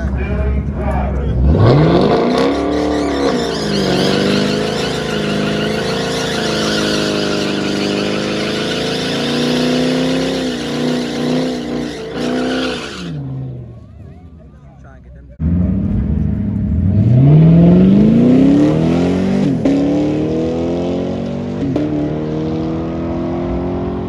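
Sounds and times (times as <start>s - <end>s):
car engine revving hard: 1.3s - 13.4s, 15.4s - 24.0s.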